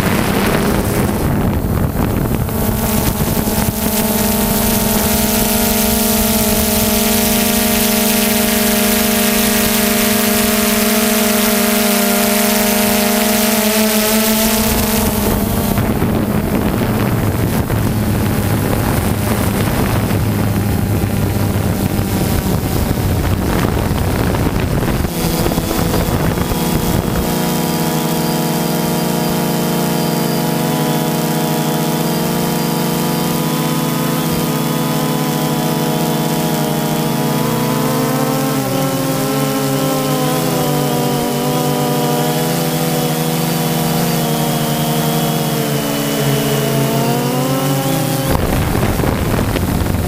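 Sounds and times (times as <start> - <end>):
drone propellers humming: 0.0 - 50.0
rough rushing noise: 0.0 - 50.0.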